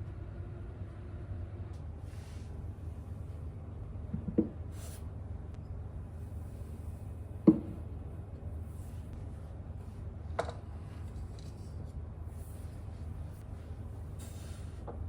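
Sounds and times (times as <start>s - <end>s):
range hood fan humming: 0.0s - 15.0s.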